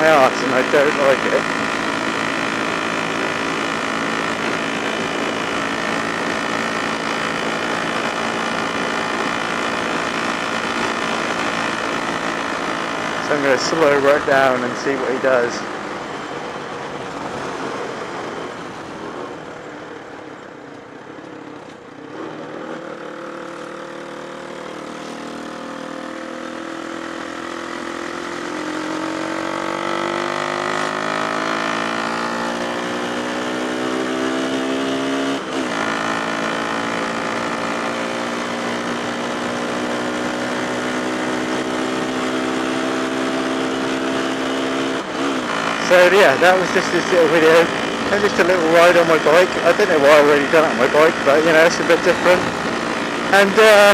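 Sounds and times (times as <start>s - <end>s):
motorcycle engine accelerating: 0.0s - 20.5s, 21.4s - 53.9s.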